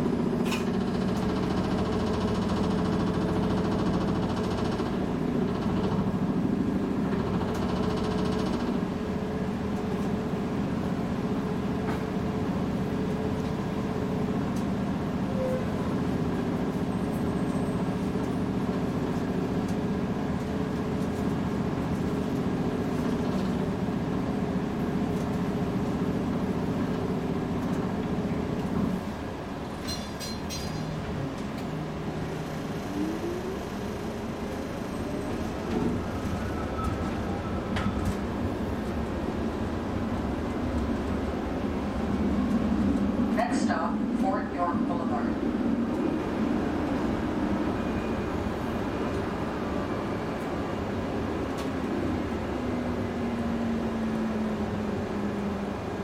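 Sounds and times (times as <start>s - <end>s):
streetcar hum and wheel rumble: 0.0s - 56.0s.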